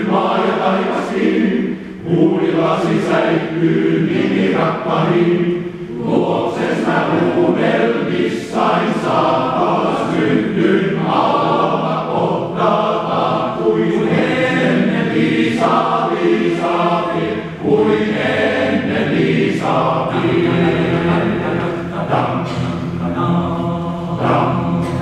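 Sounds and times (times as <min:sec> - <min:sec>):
male voice choir singing: 0:00.0 - 0:25.0.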